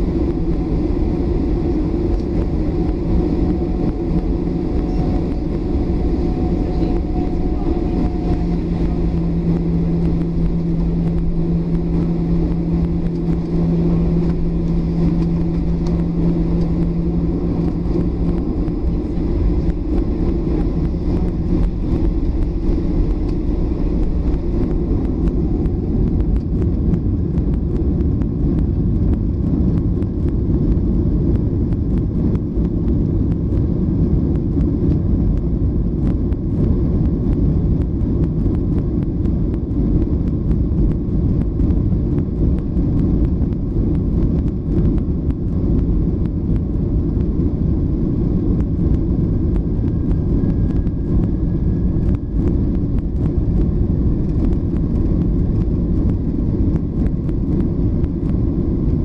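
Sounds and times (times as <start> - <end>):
aircraft engines rumbling: 0.0 - 59.0
low steady hum: 0.0 - 59.0.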